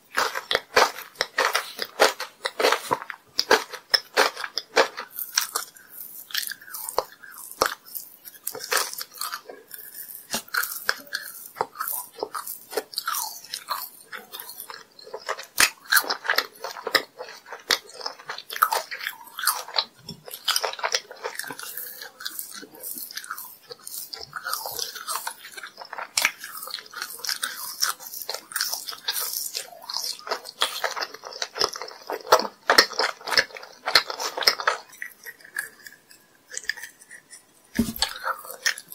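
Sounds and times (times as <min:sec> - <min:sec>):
chewing candy: 0:00.0 - 0:38.9
wet mouth sounds: 0:00.0 - 0:38.9.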